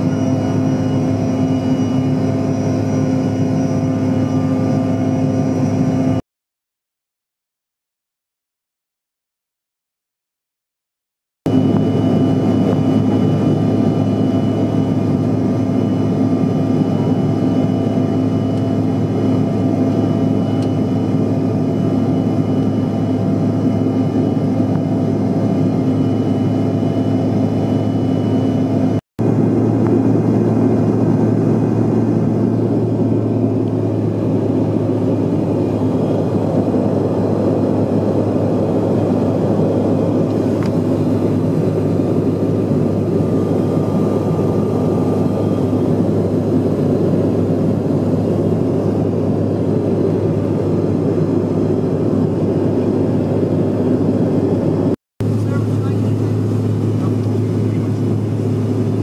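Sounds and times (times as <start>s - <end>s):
jet engines and airflow hum: 0.0s - 6.2s, 11.5s - 59.0s.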